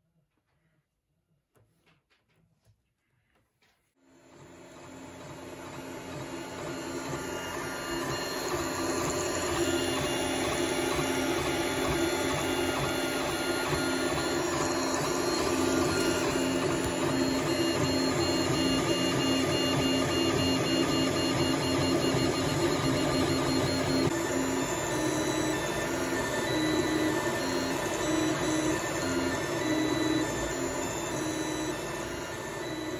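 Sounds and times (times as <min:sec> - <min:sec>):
stepper motors whining: 0:05.9 - 0:32.9.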